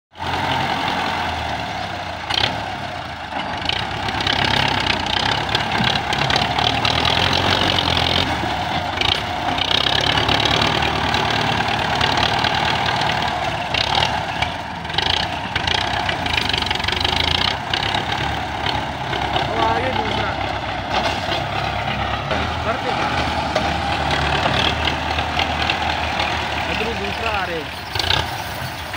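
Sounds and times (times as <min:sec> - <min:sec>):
diesel tractor engines under load: 0:00.1 - 0:28.9.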